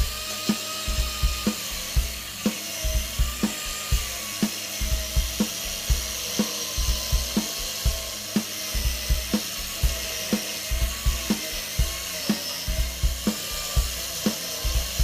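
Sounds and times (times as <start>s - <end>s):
angle grinder cutting wood: 0.0s - 15.0s
background music with steady beat: 0.0s - 15.0s.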